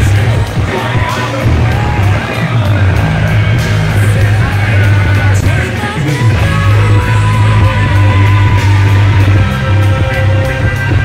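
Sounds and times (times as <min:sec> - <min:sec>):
rock music with singing: 0:00.0 - 0:11.0.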